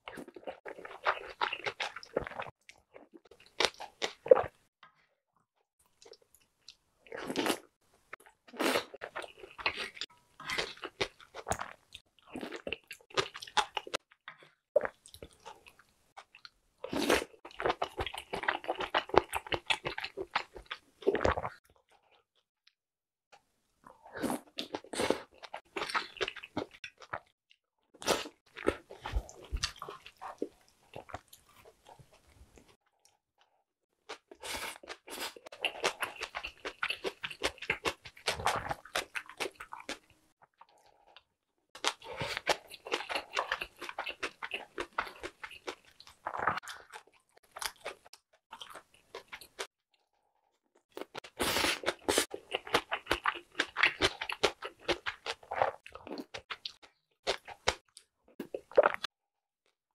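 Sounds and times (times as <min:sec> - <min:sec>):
chewing and crunching food: 0:00.0 - 0:05.0, 0:05.8 - 0:22.5, 0:23.3 - 0:59.1.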